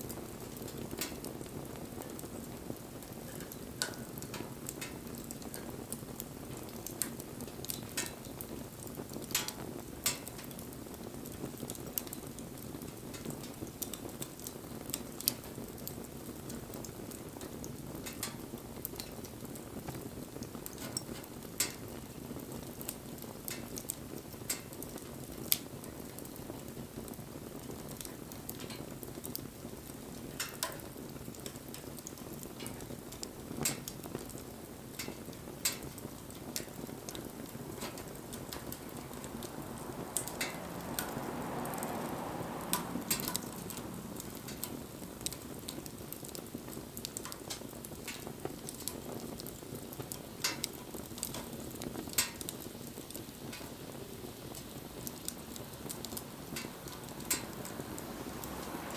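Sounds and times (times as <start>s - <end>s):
campfire flames rushing: 0.0s - 58.9s
fire crackles and pops: 0.0s - 58.9s
fire hissing: 0.1s - 58.9s.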